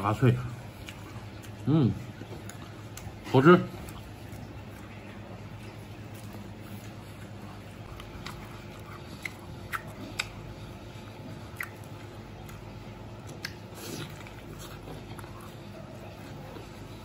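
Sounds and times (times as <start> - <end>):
wet chewing: 0.5 - 17.0.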